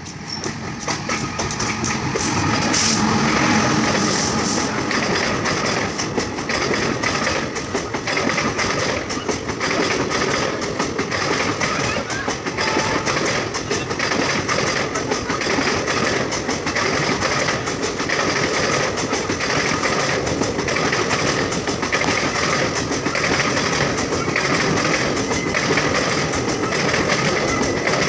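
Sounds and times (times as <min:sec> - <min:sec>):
clatter over rail joints: 0:00.0 - 0:28.0
train wheels rumbling on rail: 0:00.0 - 0:28.0.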